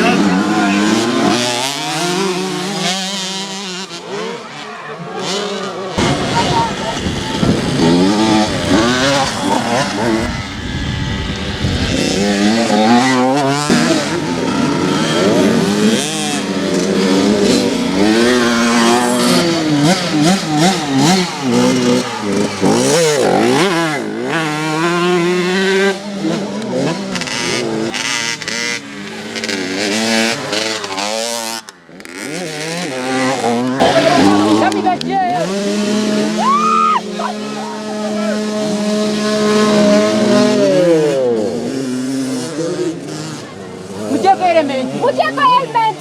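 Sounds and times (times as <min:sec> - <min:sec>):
motocross bike engines revving: 0:00.0 - 0:46.0.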